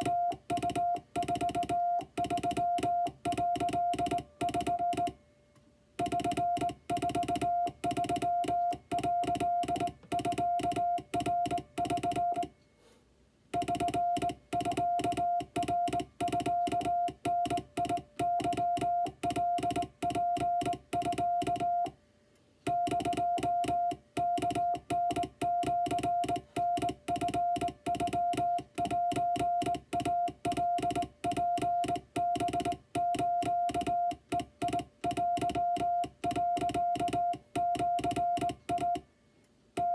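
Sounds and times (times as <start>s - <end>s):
morse code beeps: 0.0s - 5.2s, 6.0s - 12.5s, 13.6s - 21.9s, 22.7s - 39.0s.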